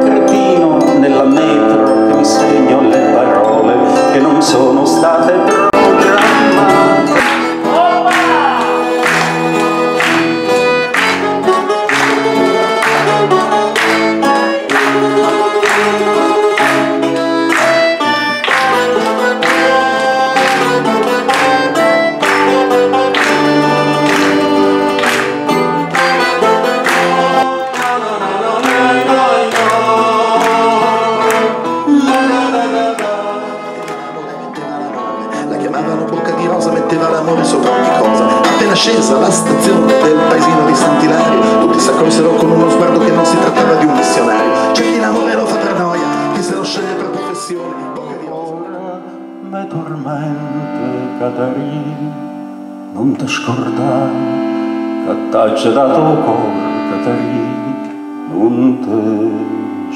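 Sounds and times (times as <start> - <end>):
accordion: 0.0 - 59.9
nylon-string guitar: 0.0 - 59.9.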